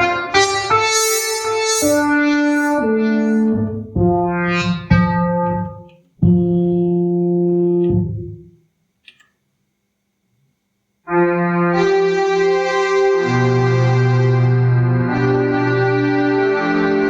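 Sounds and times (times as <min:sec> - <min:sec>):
electronic keyboard notes: 0:00.0 - 0:08.6, 0:11.1 - 0:17.0.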